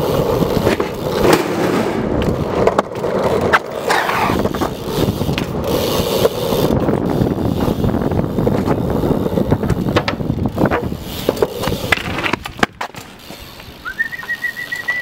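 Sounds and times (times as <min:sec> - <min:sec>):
bike clicks and knocks: 0:00.0 - 0:15.0
bike tyres rolling on asphalt: 0:00.0 - 0:15.0.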